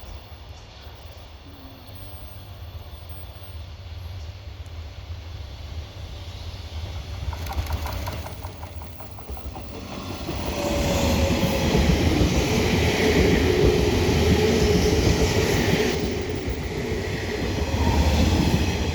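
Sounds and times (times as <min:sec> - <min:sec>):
electric train passing: 0:00.0 - 0:18.9.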